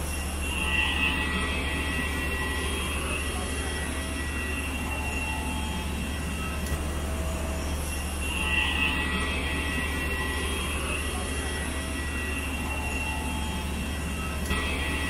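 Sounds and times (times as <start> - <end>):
high-pitched jet whine: 0.0 - 15.0
low drone: 0.0 - 15.0.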